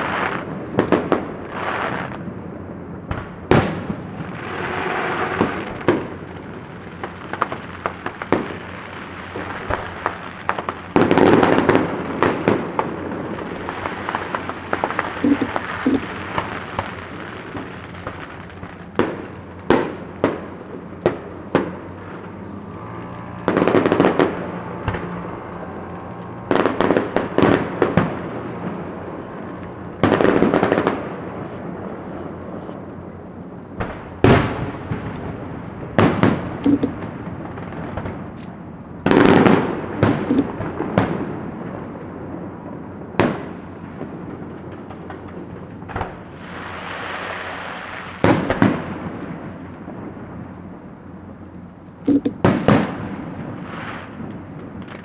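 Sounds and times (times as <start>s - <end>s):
fireworks crackling bursts: 0.0s - 55.0s
fireworks sharp bangs: 0.0s - 55.0s.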